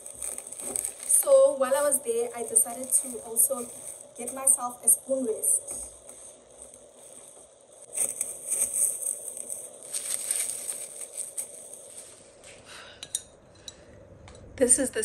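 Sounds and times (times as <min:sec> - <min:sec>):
plastic wrapping crinkling: 0:00.0 - 0:12.6.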